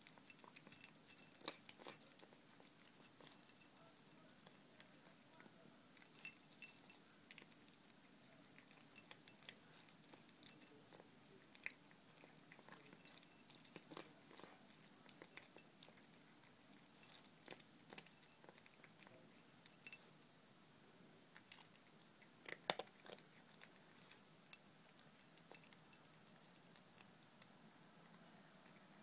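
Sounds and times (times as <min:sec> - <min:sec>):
cat chewing and licking: 0:00.0 - 0:29.0.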